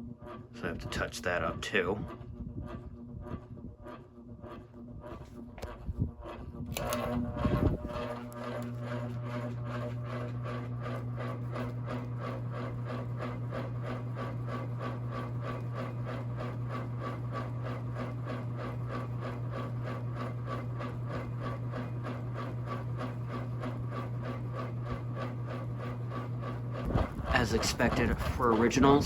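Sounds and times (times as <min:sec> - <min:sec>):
ceiling fan motor hum: 0:00.0 - 0:29.0
fan blade rhythmic ticking: 0:00.0 - 0:29.0.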